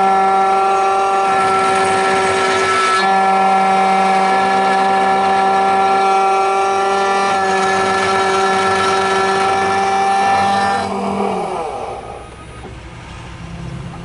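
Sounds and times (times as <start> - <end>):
key cutting machine whining: 0.0 - 12.5.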